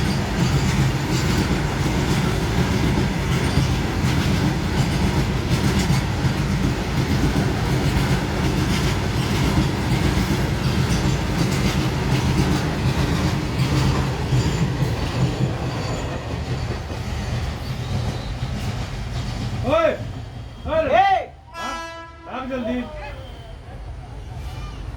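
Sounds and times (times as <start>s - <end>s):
train wheels clattering over rail joints: 0.0s - 20.6s.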